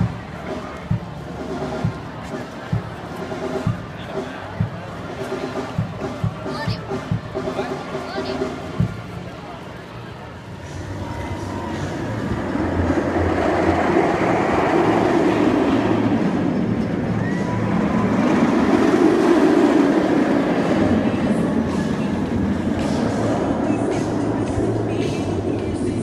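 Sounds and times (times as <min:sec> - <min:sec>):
roller coaster roaring on track: 0:00.0 - 0:26.0.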